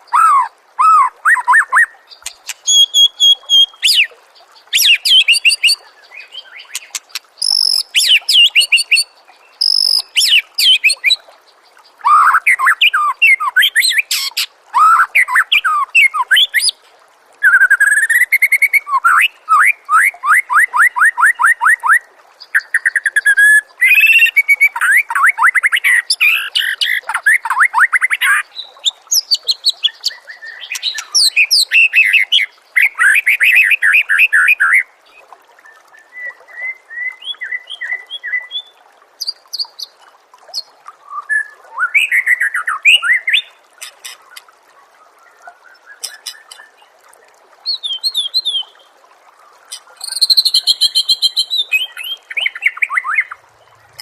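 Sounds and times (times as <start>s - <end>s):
songbird singing: 0.0s - 16.8s, 17.4s - 44.5s, 45.2s - 46.9s, 47.6s - 48.9s, 49.6s - 54.0s.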